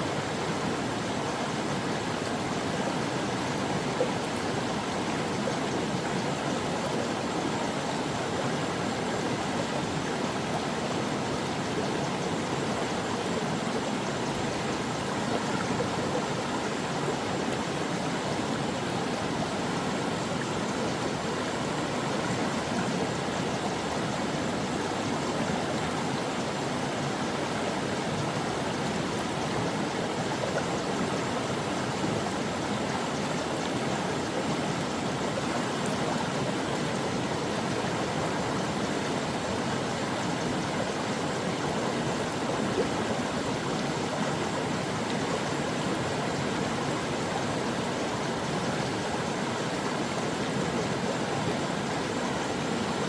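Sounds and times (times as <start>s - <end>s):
brook babbling over stones: 0.0s - 53.0s.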